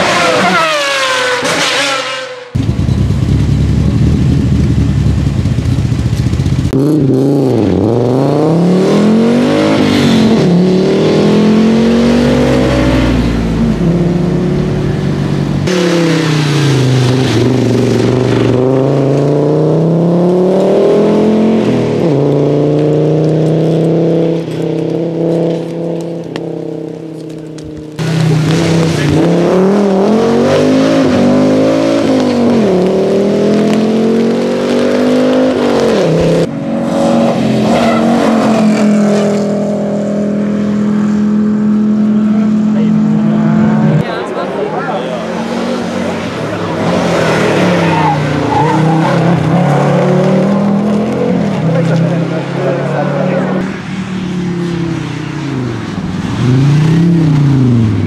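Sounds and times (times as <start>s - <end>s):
rally car engine revving: 0.0s - 5.3s, 6.1s - 58.0s.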